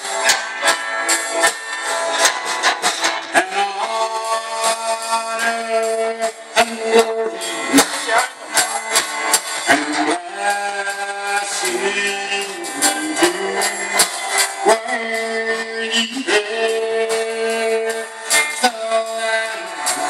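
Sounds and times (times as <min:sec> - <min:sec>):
drum kit beat: 0:00.0 - 0:20.0
strummed acoustic guitar: 0:00.0 - 0:20.0
man singing into microphone: 0:03.2 - 0:09.0, 0:09.6 - 0:20.0.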